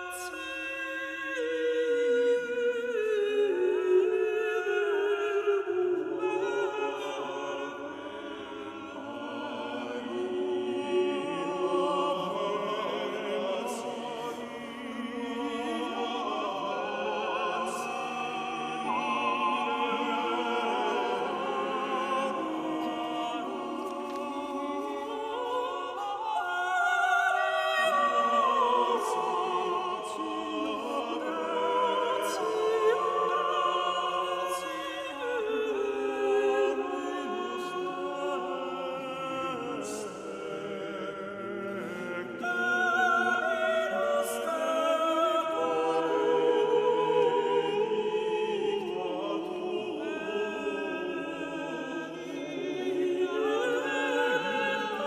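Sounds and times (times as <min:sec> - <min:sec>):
choir singing sacred polyphony: 0:00.0 - 0:55.0.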